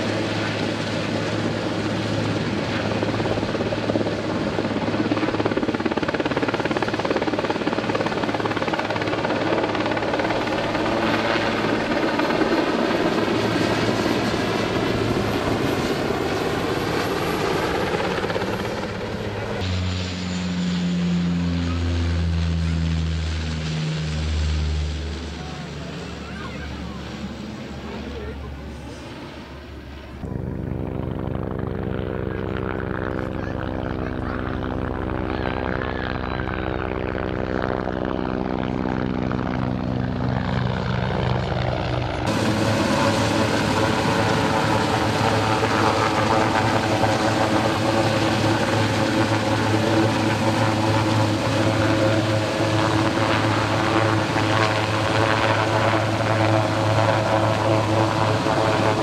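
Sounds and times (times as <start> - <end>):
helicopter hovering: 0.0 - 59.0
propeller aircraft flying past: 0.0 - 59.0.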